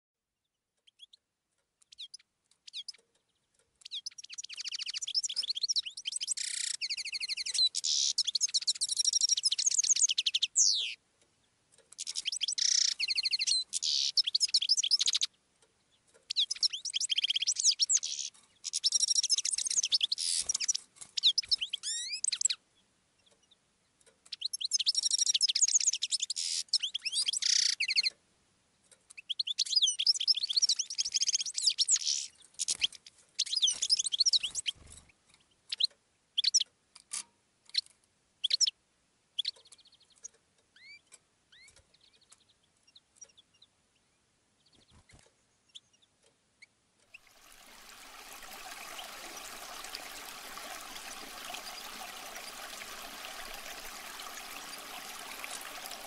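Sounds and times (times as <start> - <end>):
birds singing chirps and trills: 1.8 - 22.6, 23.2 - 28.2, 28.9 - 38.8, 39.4 - 56.0.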